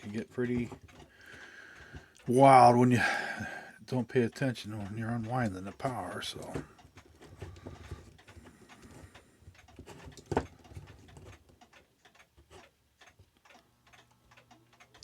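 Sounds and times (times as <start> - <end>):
clock ratchet clicks: 0.0 - 2.8, 3.9 - 15.0.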